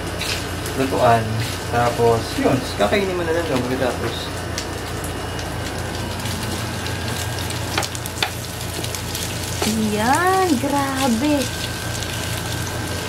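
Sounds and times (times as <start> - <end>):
meat sizzling on grill pan: 0.0 - 13.0.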